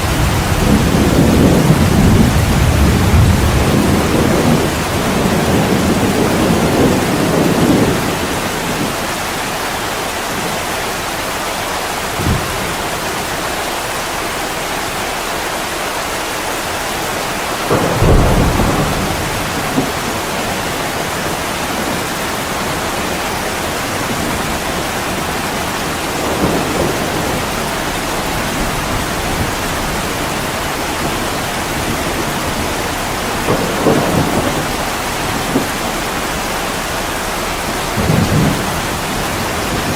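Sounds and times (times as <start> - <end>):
heavy rain on a window: 0.0 - 39.9
thunder rumbling: 0.0 - 39.9.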